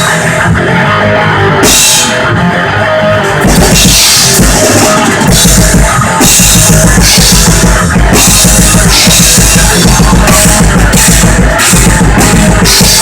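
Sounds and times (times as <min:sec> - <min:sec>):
distorted electric guitar: 0:00.0 - 0:13.0
drum kit with cymbal crashes: 0:01.6 - 0:02.4, 0:03.2 - 0:13.0.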